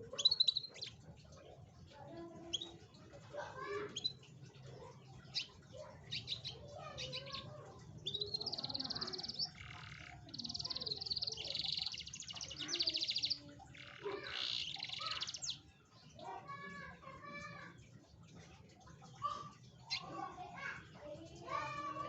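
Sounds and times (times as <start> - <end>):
canary chirps: 0.0 - 22.0
canary singing trills: 0.0 - 22.0.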